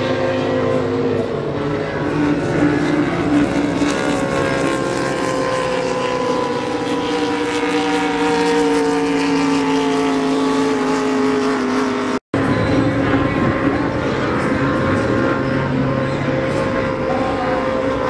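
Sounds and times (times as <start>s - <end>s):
race boat engines passing: 0.0s - 18.0s.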